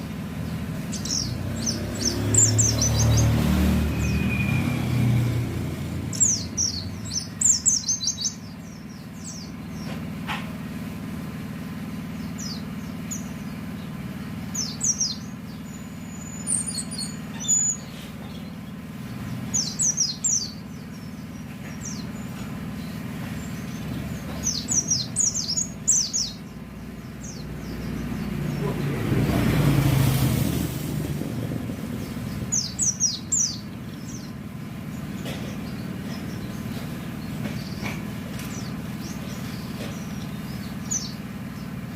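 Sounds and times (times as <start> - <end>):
bird chirping song: 0.0 - 10.4, 11.5 - 41.9
low hum of road traffic: 0.0 - 41.9.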